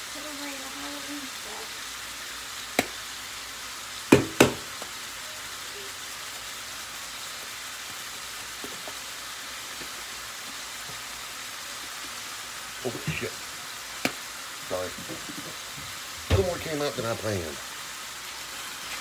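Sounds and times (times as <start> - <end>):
meat sizzling in a frying pan: 0.0 - 19.0.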